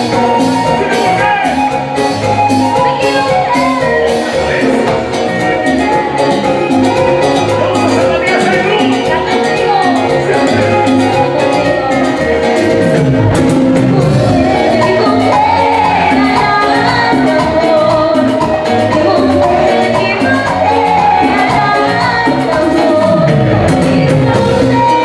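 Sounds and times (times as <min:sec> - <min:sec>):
congas and timbales beat: 0:00.0 - 0:25.0
lead vocal singing: 0:00.0 - 0:25.0
live salsa band playing: 0:00.0 - 0:25.0.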